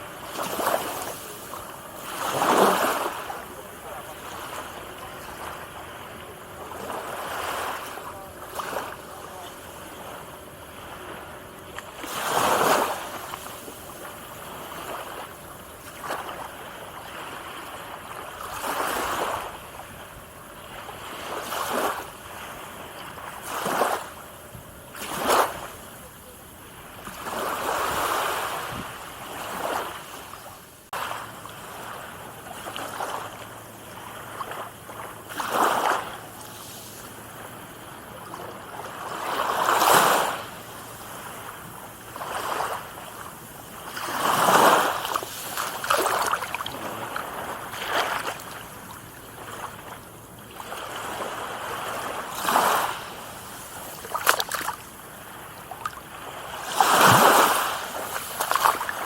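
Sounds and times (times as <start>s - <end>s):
small waves breaking: 0.0s - 59.0s
steady sea hiss: 0.0s - 59.0s.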